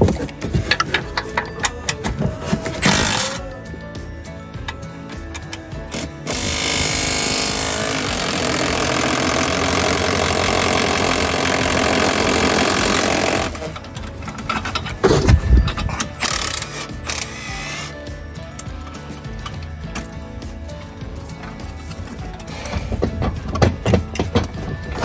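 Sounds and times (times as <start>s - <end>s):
impact wrench hammering: 0.0s - 25.0s.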